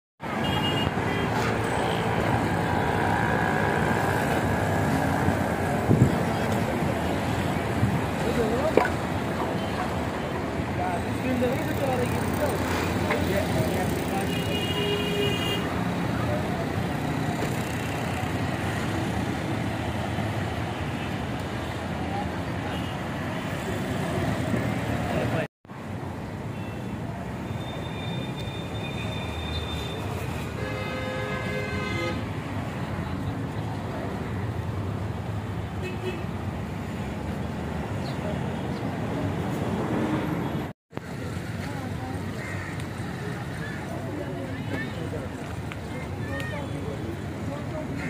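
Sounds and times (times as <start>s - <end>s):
traffic-like rumble: 0.2s - 48.0s.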